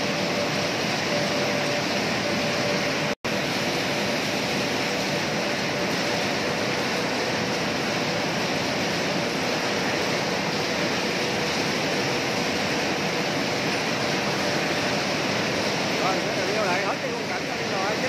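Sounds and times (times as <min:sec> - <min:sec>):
factory machinery rushing noise: 0:00.0 - 0:18.0.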